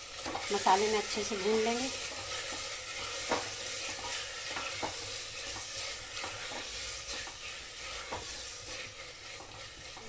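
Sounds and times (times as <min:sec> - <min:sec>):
potatoes sizzling in oil: 0:00.0 - 0:10.0
spatula scraping a pot: 0:00.0 - 0:10.0.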